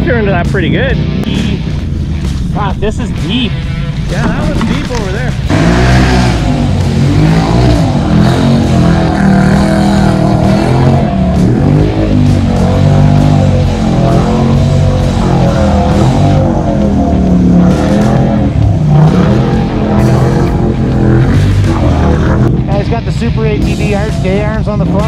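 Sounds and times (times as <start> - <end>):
rock music with electric guitar: 0.0 - 25.0.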